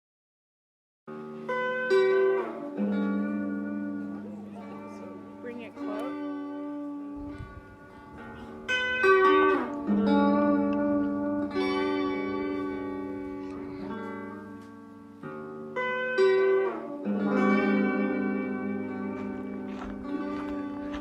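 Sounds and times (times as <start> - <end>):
plucked guitar-like notes: 1.1 - 21.0
held chords: 1.5 - 21.0.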